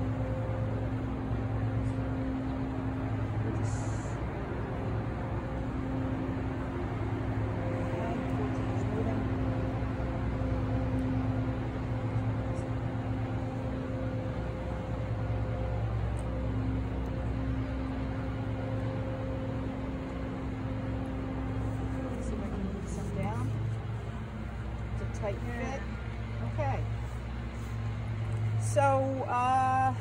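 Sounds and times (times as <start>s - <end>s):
honeybees buzzing: 0.0s - 30.0s.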